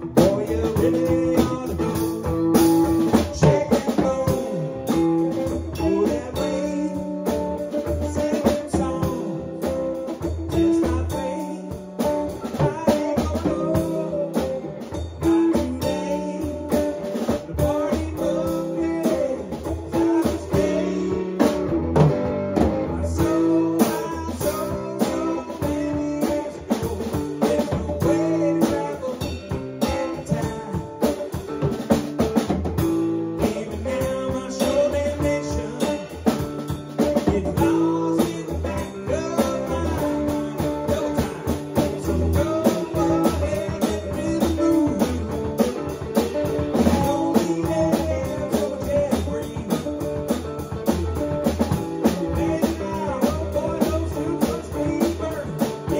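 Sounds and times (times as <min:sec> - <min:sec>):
drum kit beat: 0:00.0 - 0:55.9
guitar: 0:00.0 - 0:55.9.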